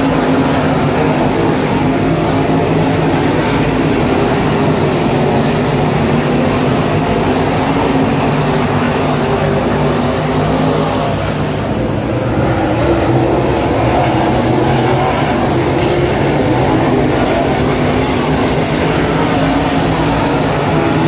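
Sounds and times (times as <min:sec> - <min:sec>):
race car engines running hard: 0:00.0 - 0:21.0.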